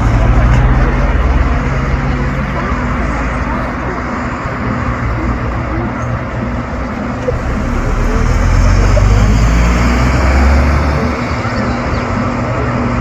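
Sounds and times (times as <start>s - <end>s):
tractors driving past: 0.0s - 13.0s.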